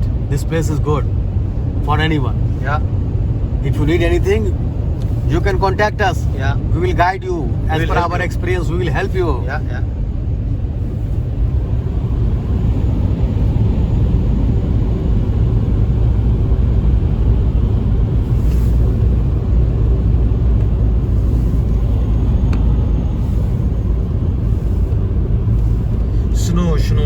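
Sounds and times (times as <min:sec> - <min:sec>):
car interior road rumble: 0:00.0 - 0:27.0.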